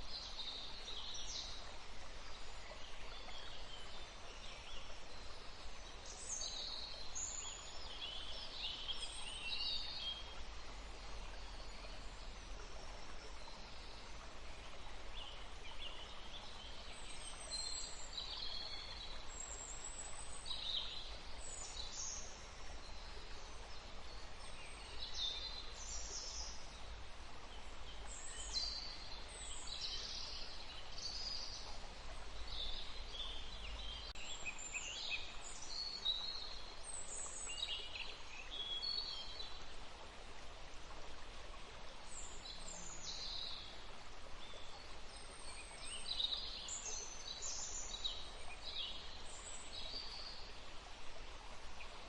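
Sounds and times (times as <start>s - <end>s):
forest birds singing: 0.0s - 39.6s, 42.1s - 50.6s.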